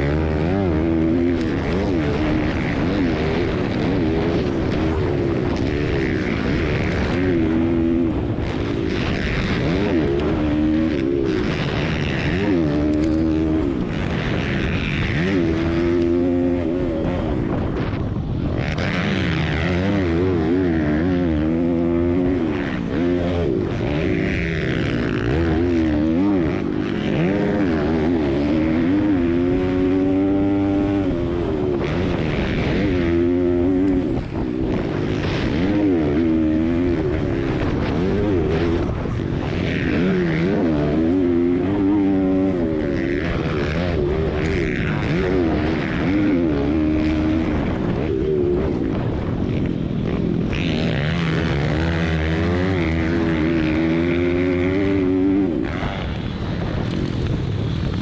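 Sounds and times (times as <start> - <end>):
motorbike engines revving: 0.0 - 58.0.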